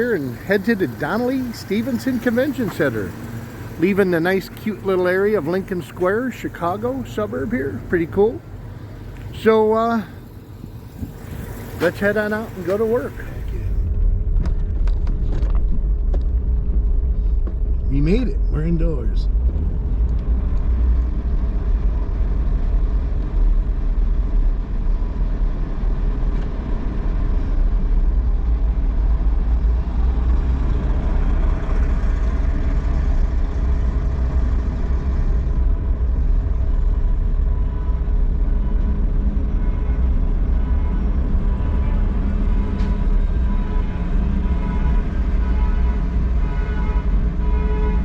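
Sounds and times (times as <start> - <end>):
road noise: 0.0 - 48.0
vehicle engine rumbling: 0.0 - 48.0.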